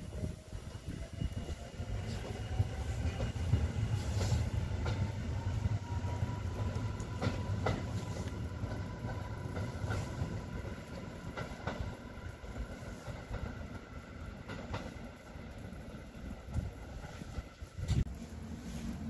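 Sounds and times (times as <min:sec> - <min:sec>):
train rumbling: 0:00.0 - 0:19.0
wheels clicking over rail joints: 0:00.0 - 0:19.0.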